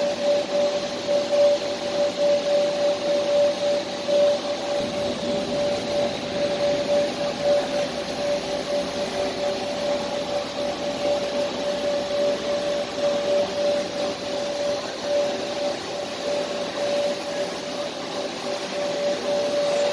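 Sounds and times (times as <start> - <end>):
machinery whooshing and humming: 0.0 - 19.9.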